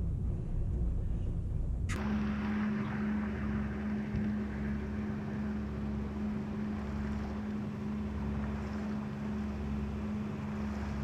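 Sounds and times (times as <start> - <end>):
boat diesel engine droning: 0.0 - 11.0
wind and water noise: 0.0 - 11.0.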